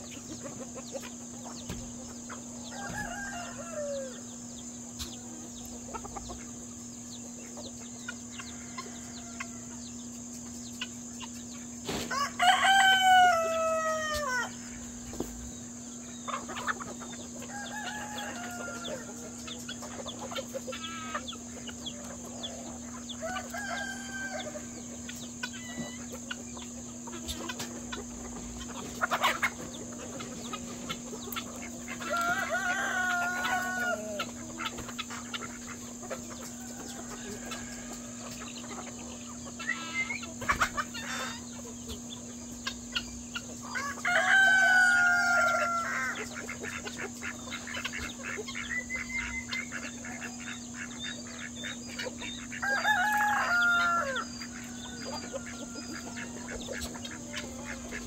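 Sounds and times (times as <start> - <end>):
roosters crowing: 0.0 - 10.2, 11.0 - 58.0
poultry clucking and chattering: 0.0 - 58.0
steady low hum: 0.0 - 58.0.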